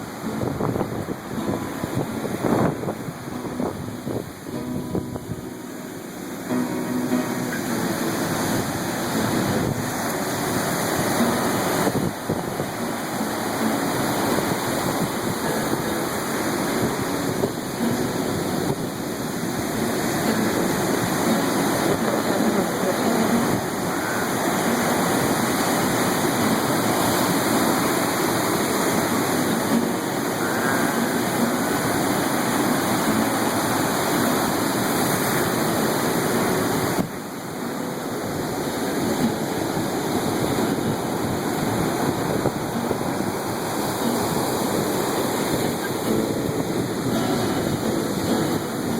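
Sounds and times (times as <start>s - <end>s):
surf waves breaking: 0.0s - 48.9s.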